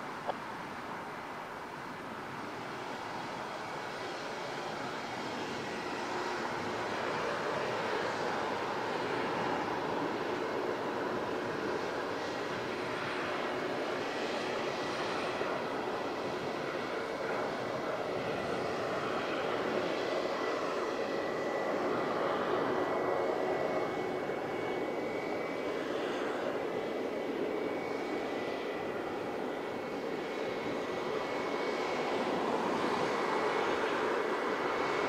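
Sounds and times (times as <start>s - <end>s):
jet engine whine: 0.0s - 35.0s.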